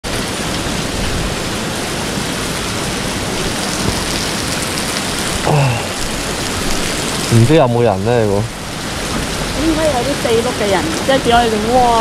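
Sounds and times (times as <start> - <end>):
heavy rain on street: 0.0 - 12.0.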